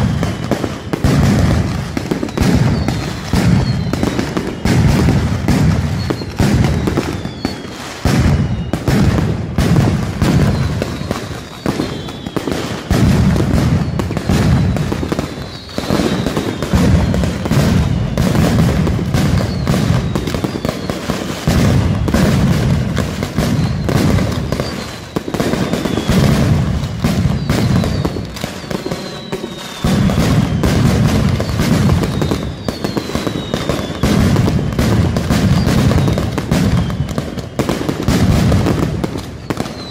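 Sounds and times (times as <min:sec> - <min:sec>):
falling firework whistles: 0:00.0 - 0:39.9
firecrackers exploding in rapid rolls: 0:00.0 - 0:39.9.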